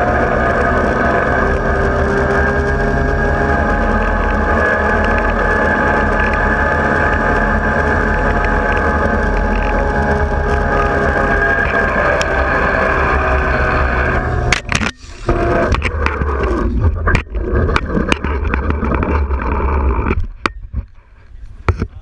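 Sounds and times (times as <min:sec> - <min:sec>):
zipline pulleys whining on cable: 0:00.0 - 0:20.2.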